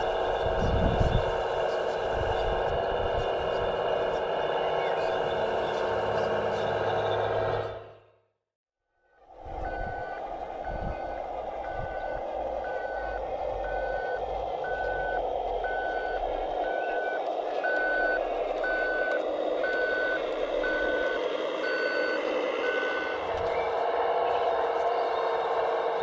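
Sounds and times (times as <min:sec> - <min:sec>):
reversing alarm beeping: 0:00.0 - 0:07.9, 0:09.5 - 0:26.0
motor hum: 0:00.0 - 0:08.0, 0:09.3 - 0:26.0.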